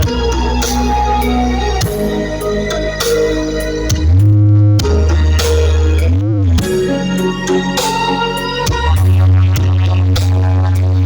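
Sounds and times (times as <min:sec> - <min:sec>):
loud electronic dance music: 0:00.0 - 0:11.0.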